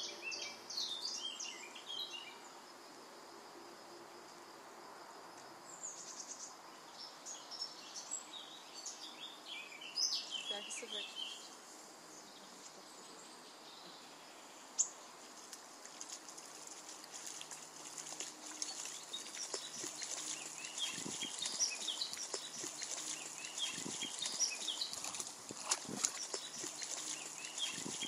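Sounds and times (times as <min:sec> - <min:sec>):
small songbirds chirping: 0:00.0 - 0:02.9, 0:05.6 - 0:28.0
outdoor background hiss: 0:00.0 - 0:28.0.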